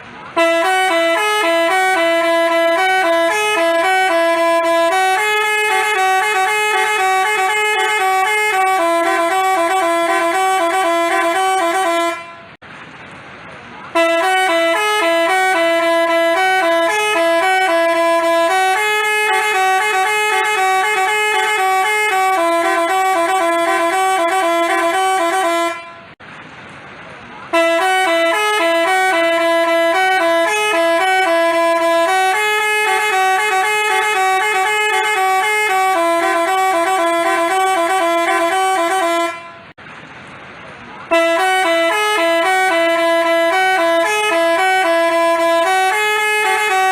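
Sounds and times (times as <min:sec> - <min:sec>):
bus horn playing multi-note tune: 0:00.2 - 0:12.6, 0:13.9 - 0:26.2, 0:27.5 - 0:39.8, 0:41.1 - 0:46.9.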